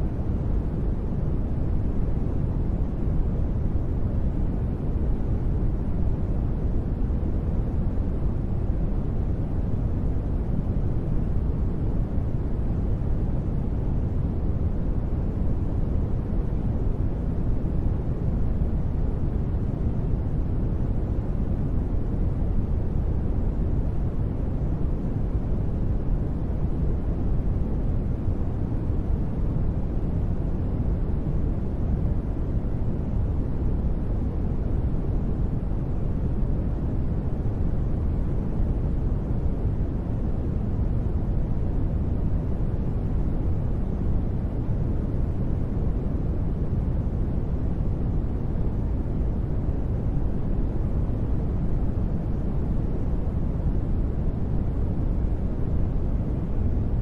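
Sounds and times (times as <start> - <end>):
deep white noise: 0.0 - 57.0.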